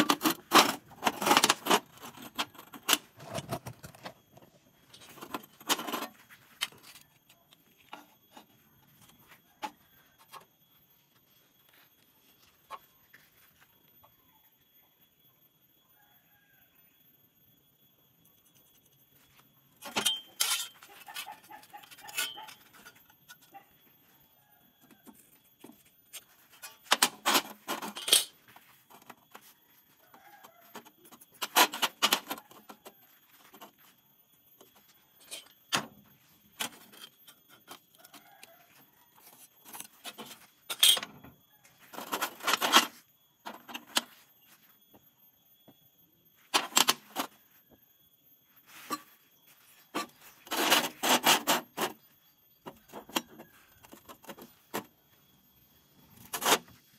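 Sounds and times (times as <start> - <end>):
metallic clinks and scrapes: 0.0 - 13.6, 18.2 - 44.9, 48.4 - 56.9.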